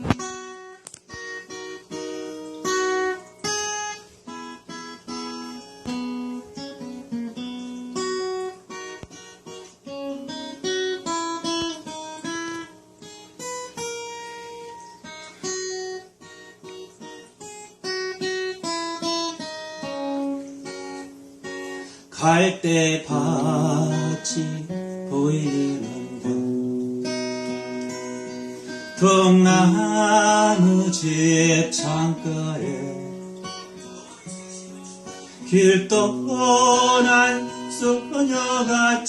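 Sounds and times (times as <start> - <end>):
acoustic guitar playing: 0.0 - 39.0.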